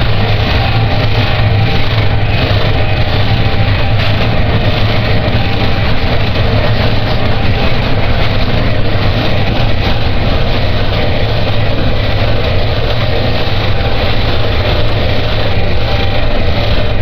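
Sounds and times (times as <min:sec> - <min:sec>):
distorted noise music: 0:00.0 - 0:17.0
heavy low drone: 0:00.0 - 0:17.0.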